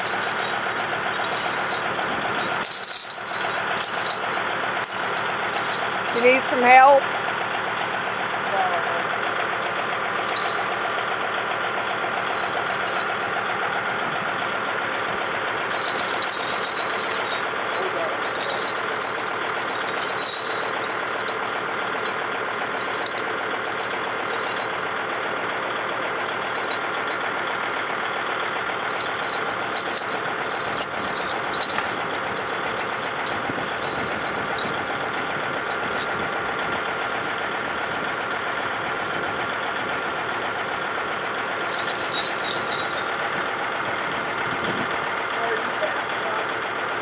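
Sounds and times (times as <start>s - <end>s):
diesel tractor engine idling: 0.0s - 47.0s
tire chains clinking: 0.0s - 47.0s.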